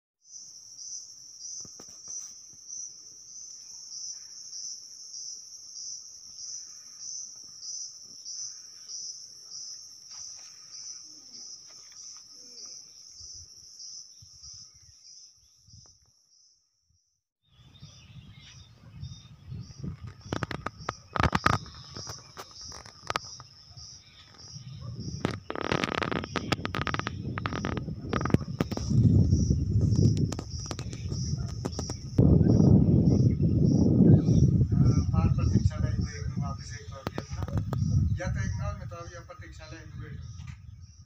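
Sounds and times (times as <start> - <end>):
insect chorus pulsing buzz: 0.2 - 41.0.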